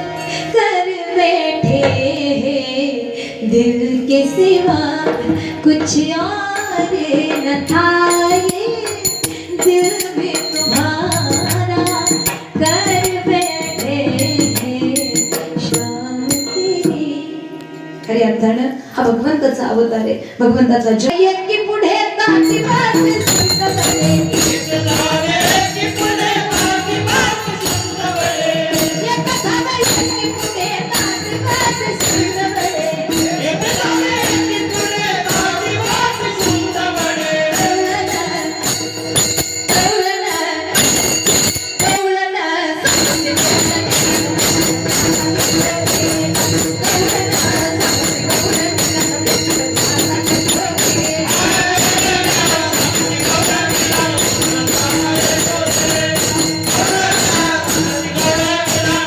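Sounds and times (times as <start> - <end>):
jingling metal percussion: 0.0 - 2.6, 3.4 - 18.5, 21.9 - 59.0.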